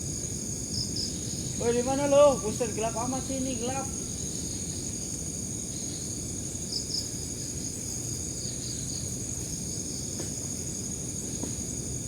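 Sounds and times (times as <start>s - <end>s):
crickets trilling: 0.1s - 10.1s.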